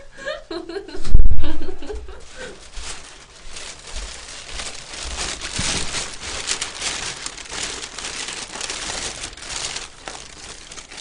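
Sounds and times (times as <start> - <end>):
plastic bag rustling: 1.1 - 11.0.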